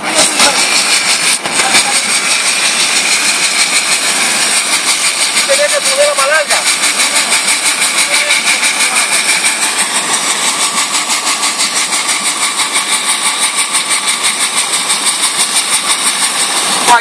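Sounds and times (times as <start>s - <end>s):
motor running with pulsing beat: 0.0s - 17.0s.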